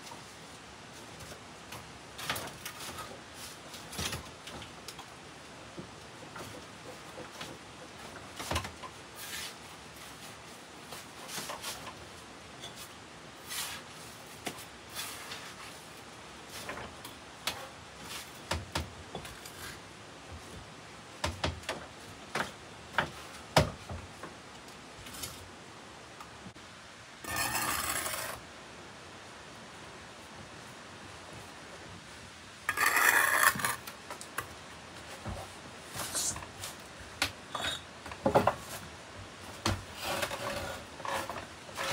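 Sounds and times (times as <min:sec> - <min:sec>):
rustle: 0:00.0 - 0:41.9.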